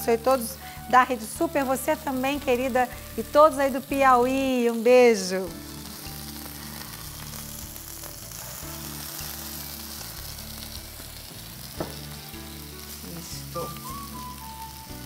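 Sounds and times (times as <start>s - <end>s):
ginger sizzling in oil: 0.0s - 15.0s.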